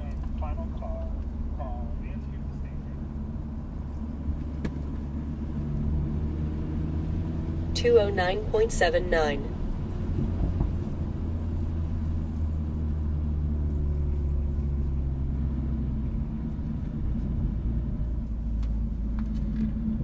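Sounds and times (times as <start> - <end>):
car engine rumbling at low revs: 0.0 - 20.0.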